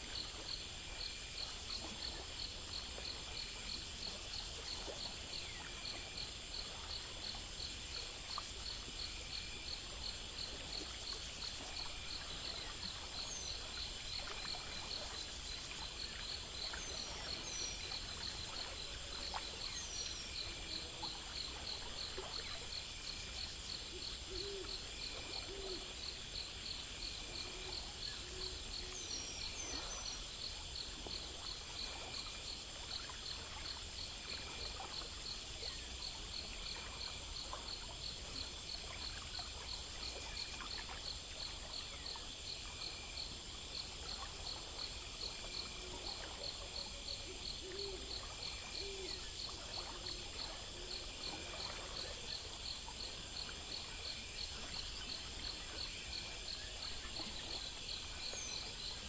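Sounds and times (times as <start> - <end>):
insects chirping in trills: 0.0 - 59.0.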